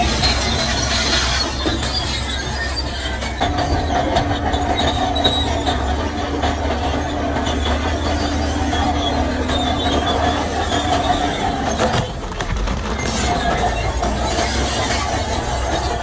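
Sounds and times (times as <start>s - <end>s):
diesel engine running: 0.0s - 16.0s
steel tracks squealing and clanking: 0.0s - 16.0s.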